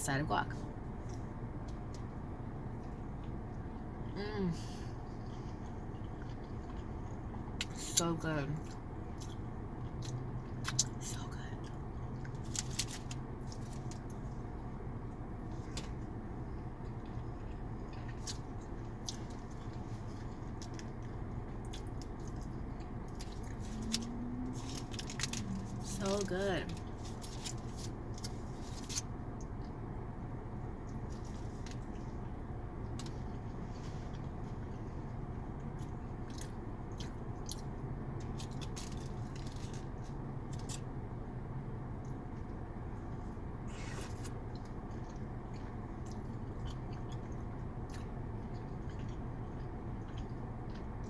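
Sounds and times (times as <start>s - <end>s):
low hum: 0.0s - 51.0s
chewing and mouth noises: 0.8s - 41.1s, 41.9s - 51.0s.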